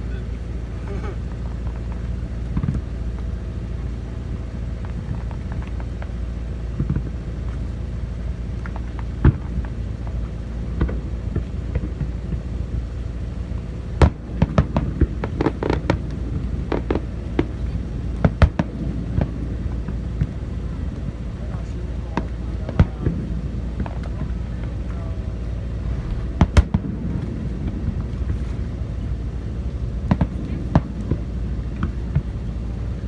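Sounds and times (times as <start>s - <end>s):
steady low rumble: 0.0s - 33.0s
fireworks bangs and crackling: 1.1s - 33.0s.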